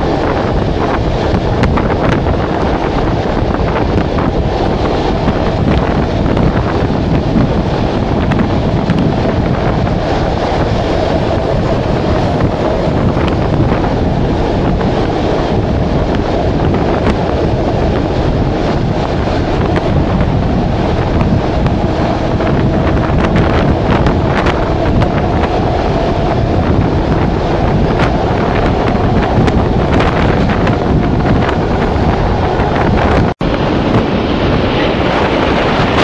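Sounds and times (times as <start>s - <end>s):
train rumbling on rails: 0.0s - 36.0s
wind buffeting microphone: 0.0s - 36.0s.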